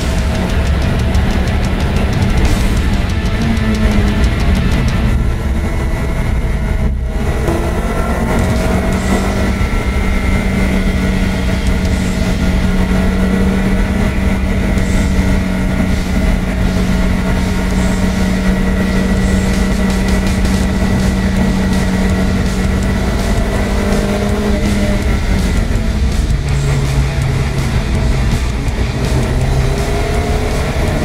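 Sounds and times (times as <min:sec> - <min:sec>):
car engine running under load: 0:00.0 - 0:31.0
road noise on wet track: 0:00.0 - 0:31.0.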